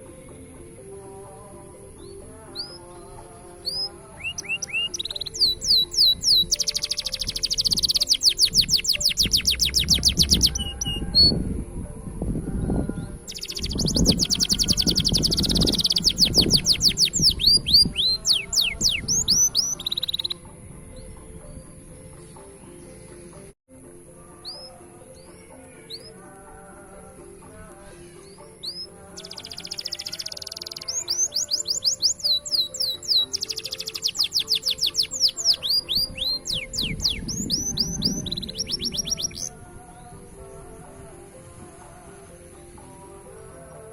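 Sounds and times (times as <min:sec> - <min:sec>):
faint background music: 0:00.0 - 0:43.9
canary singing trills: 0:01.2 - 0:11.5, 0:12.6 - 0:23.5, 0:24.3 - 0:43.9.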